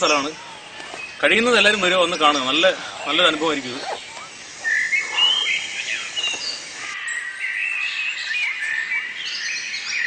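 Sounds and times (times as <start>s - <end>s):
forest birds chirping and whistling: 0.0s - 10.0s.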